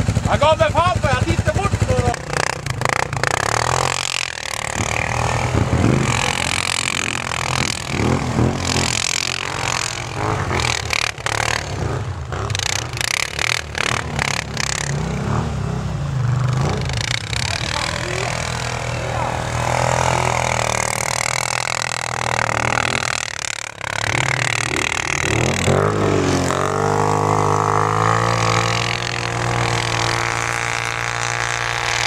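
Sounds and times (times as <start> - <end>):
quad engine revving: 0.0 - 32.0.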